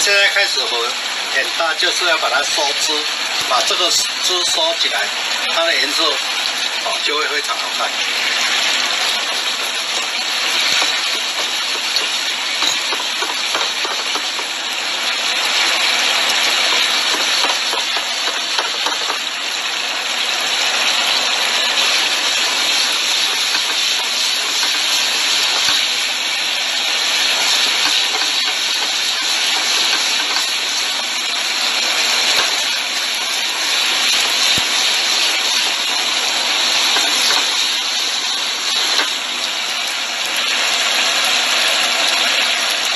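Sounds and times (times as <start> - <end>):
sauce boiling and sizzling in skillet: 0.0 - 42.9.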